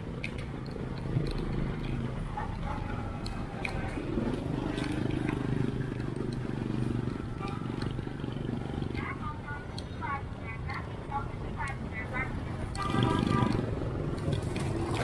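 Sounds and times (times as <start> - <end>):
motorbike and bus engines rumbling: 0.0 - 15.0.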